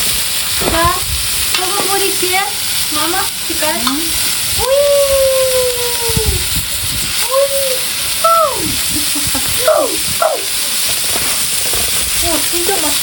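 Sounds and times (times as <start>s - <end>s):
ribs sizzling on hot metal: 0.0s - 13.0s.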